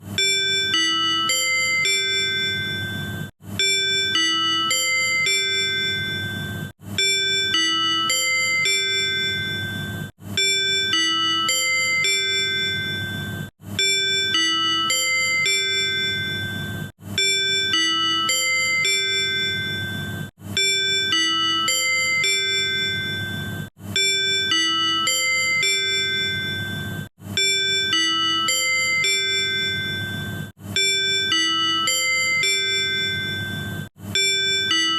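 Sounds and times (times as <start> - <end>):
few-note electronic chime: 0.2 - 34.9.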